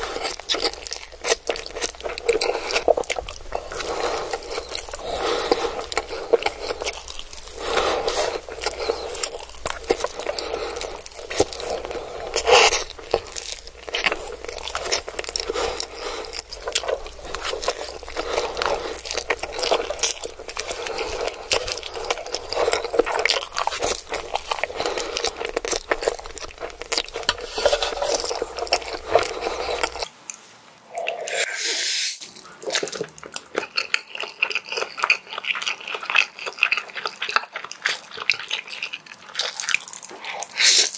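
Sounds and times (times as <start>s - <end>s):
person slurping and chewing noodles: 0.0s - 30.1s, 30.9s - 40.9s.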